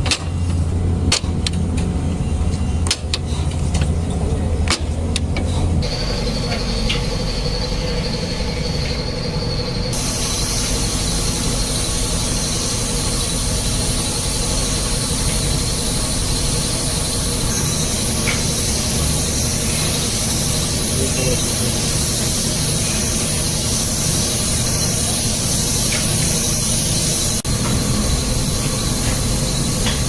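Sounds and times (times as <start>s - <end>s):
woodworking machine whining: 0.0s - 30.0s.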